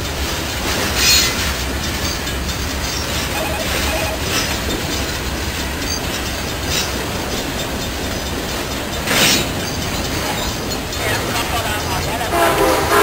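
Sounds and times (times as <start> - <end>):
freight train cars rumbling past: 0.0 - 13.0
wheels clacking over rail joints: 0.0 - 13.0.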